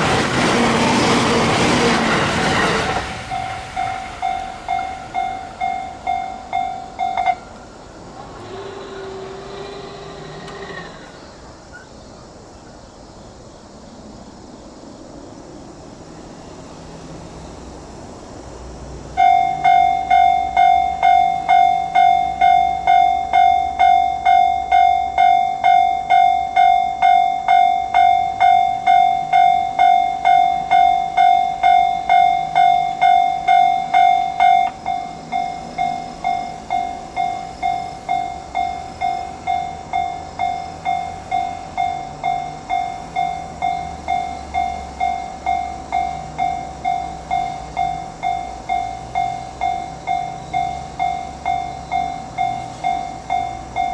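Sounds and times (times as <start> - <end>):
railroad crossing bell ringing: 1.5 - 10.6, 19.1 - 53.9.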